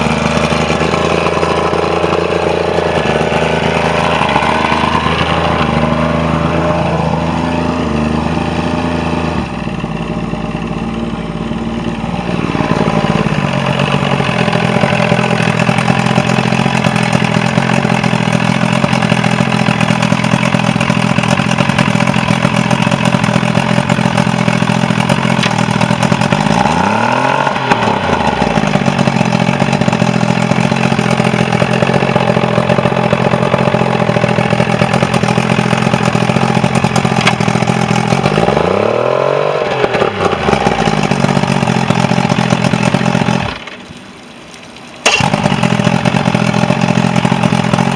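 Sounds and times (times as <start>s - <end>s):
outboard motor running: 0.0s - 44.2s, 44.9s - 47.9s.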